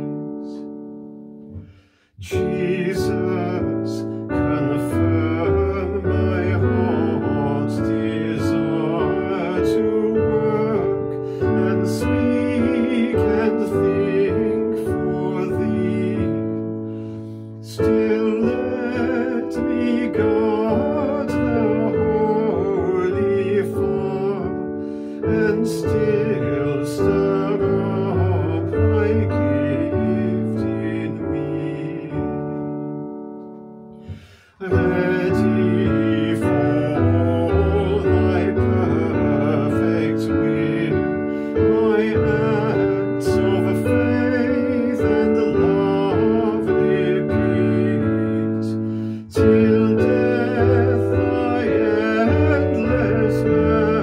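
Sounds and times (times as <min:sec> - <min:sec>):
upright piano playing a hymn: 0:00.0 - 0:54.0.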